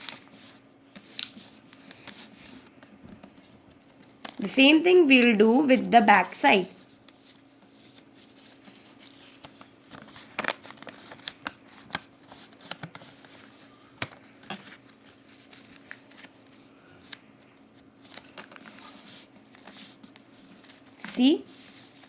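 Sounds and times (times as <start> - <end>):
paper being folded and creased: 0.0 - 4.5, 6.8 - 22.0.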